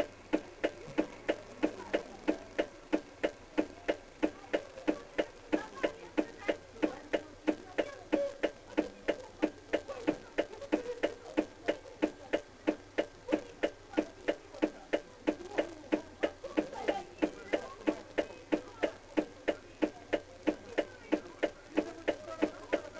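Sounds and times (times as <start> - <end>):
steady ticking: 0.0 - 22.9.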